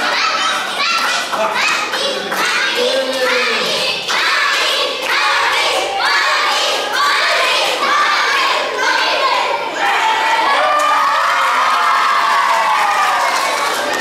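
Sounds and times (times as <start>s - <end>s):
children chanting and cheering: 0.0s - 14.0s.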